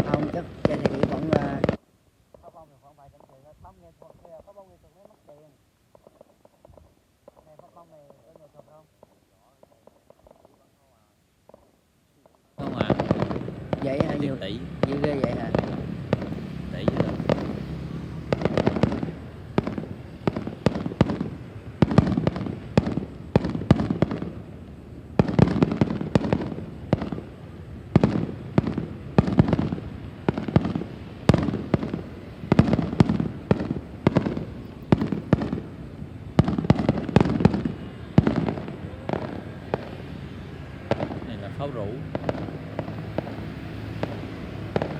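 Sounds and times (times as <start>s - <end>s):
fireworks bursting and crackling: 0.0s - 44.9s.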